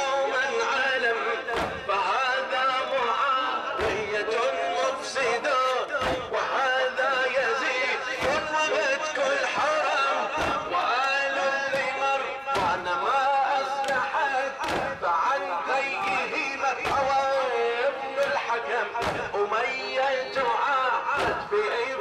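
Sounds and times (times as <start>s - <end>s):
man chanting over a pa: 0.0s - 22.0s
chest-beating thuds: 1.5s - 2.6s, 3.7s - 4.5s, 5.4s - 19.6s, 20.4s - 22.0s.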